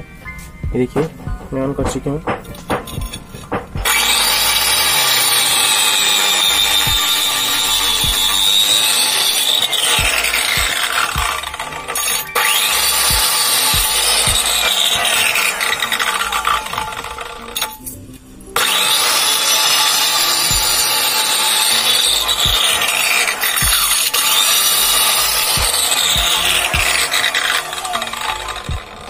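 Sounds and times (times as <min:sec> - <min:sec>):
cutter grinding through brick: 0:02.1 - 0:17.9, 0:18.6 - 0:29.0.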